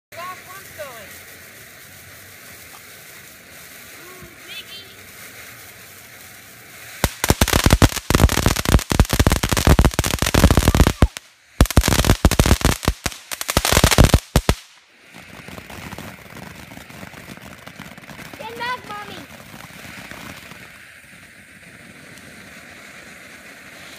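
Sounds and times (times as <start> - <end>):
firework crackling: 0.1 - 23.9
firework hiss: 0.1 - 23.9.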